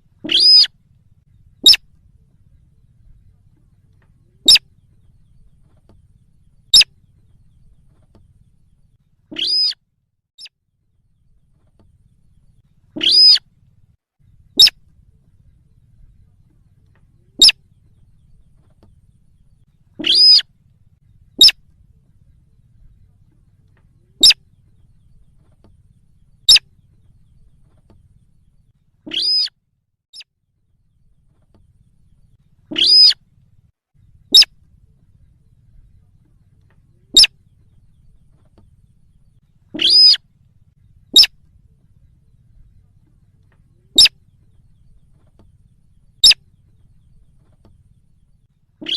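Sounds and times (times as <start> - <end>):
recorded bird call: 0.0 - 9.8, 10.4 - 48.9.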